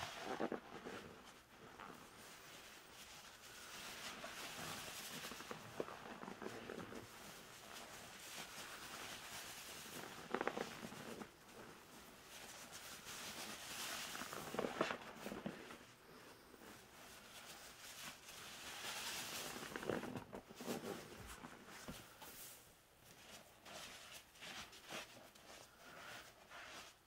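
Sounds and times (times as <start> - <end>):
crackling foam: 0.0 - 27.0.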